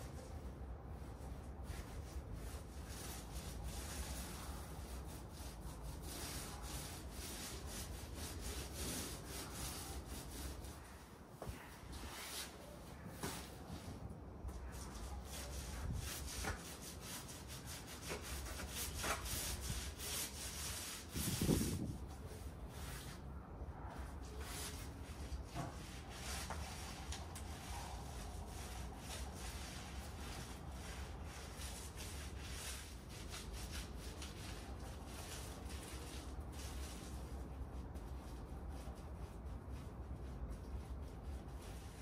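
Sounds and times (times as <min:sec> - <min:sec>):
paint rubbing strokes on plaster: 0:00.0 - 0:42.0.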